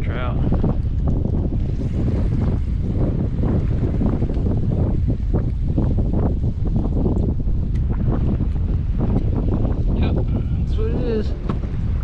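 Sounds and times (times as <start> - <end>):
small waves lapping against hull: 0.0 - 12.0
wind buffeting microphone: 0.0 - 12.0.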